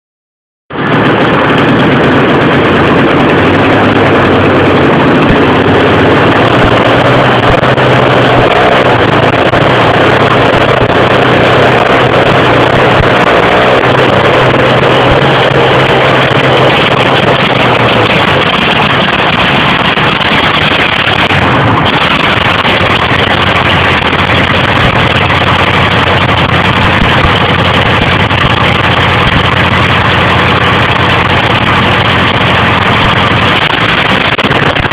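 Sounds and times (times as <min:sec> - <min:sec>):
tractor engine running: 0:00.7 - 0:34.9.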